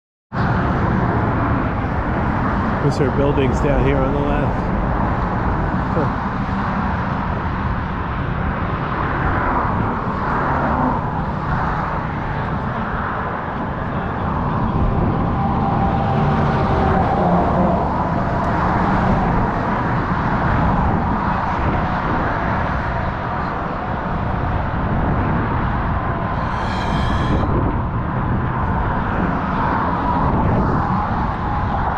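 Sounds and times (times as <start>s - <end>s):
road traffic passing: 0.4s - 31.9s.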